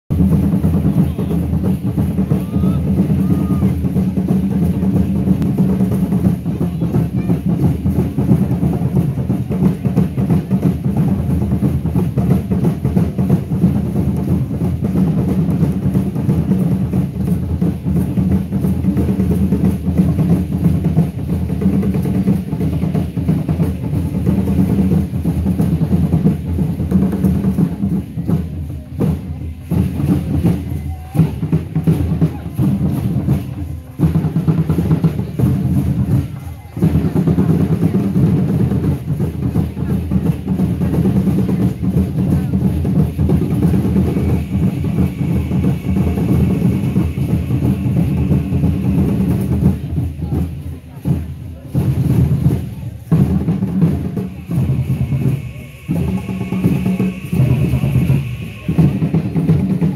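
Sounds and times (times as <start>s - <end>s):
large drums beating fast rhythm: 0.1s - 59.9s.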